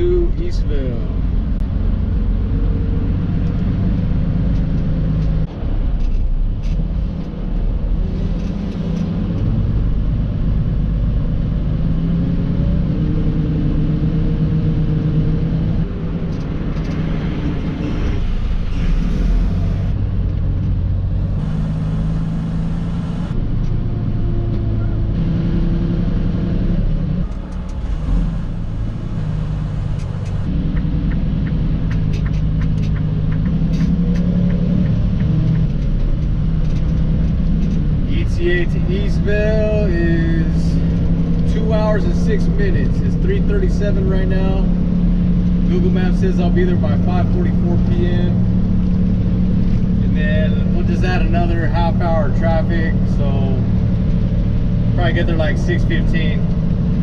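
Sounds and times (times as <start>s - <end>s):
truck engine shifting gears: 0.0s - 57.0s.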